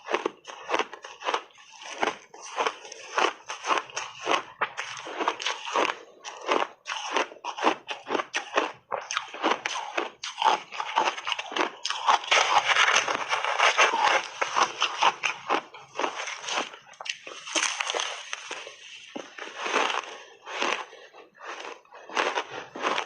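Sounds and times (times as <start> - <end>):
chewing crunchy ice: 0.0 - 23.0.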